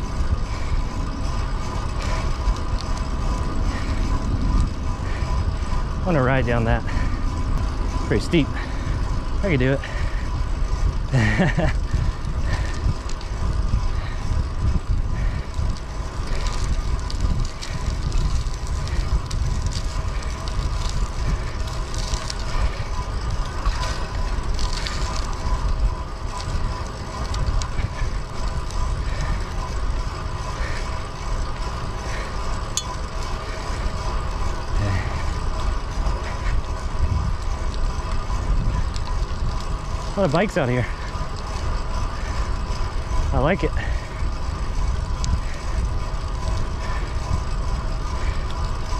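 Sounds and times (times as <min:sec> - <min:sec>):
bicycle drivetrain and tyres whirring: 0:00.0 - 0:48.9
wind buffeting microphone: 0:00.0 - 0:48.9.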